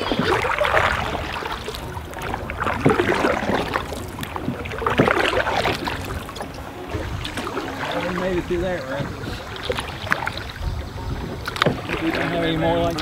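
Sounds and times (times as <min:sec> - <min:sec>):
paddle splashing in water: 0:00.0 - 0:13.0
rushing river water: 0:00.0 - 0:13.0.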